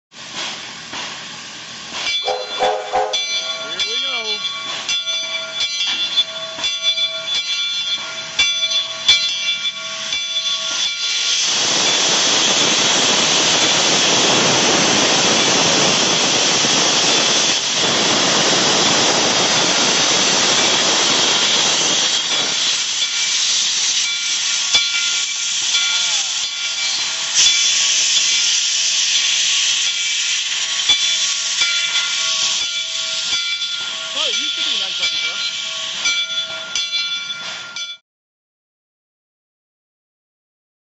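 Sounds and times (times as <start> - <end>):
steam locomotive hissing: 0.1 - 37.9.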